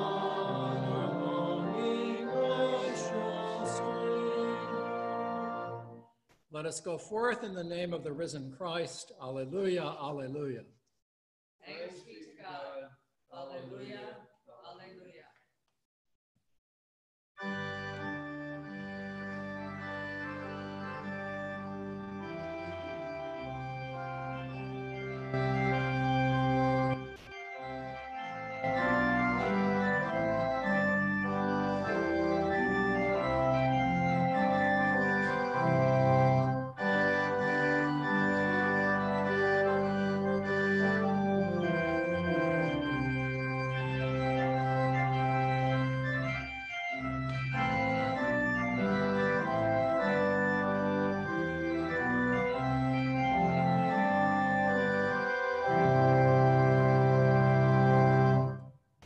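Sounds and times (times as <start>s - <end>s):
church organ playing chords: 0.0s - 6.0s, 17.4s - 58.7s.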